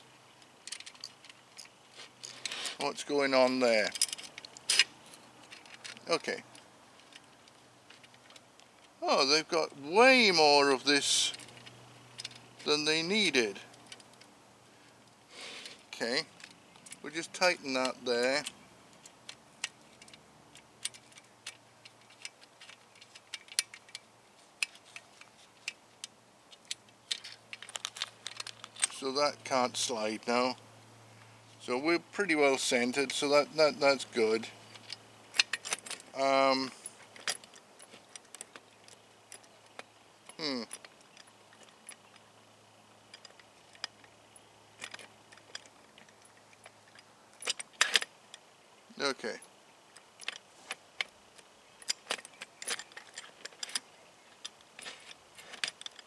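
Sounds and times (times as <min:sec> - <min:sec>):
small metal parts clicking: 0:00.2 - 0:09.0, 0:10.2 - 0:30.7, 0:34.0 - 0:48.6, 0:49.4 - 0:56.0.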